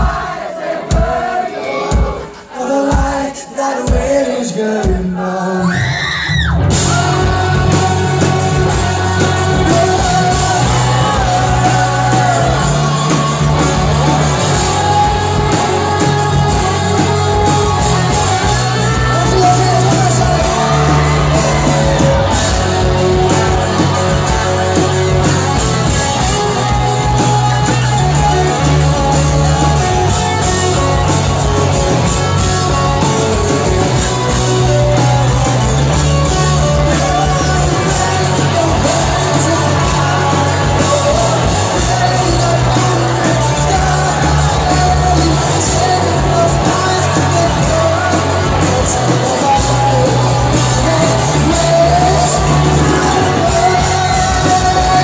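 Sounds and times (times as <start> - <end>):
lead singer singing: 0.0 - 55.0
live rock band playing: 0.0 - 55.0
bass line: 6.4 - 55.0.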